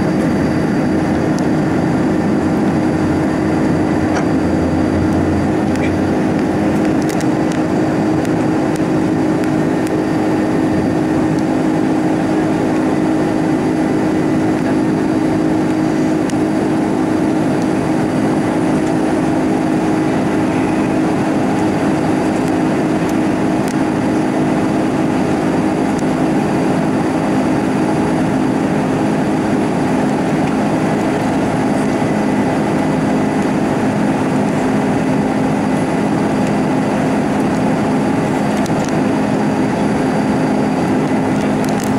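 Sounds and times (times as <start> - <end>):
aircraft cabin engine drone: 0.0 - 41.9.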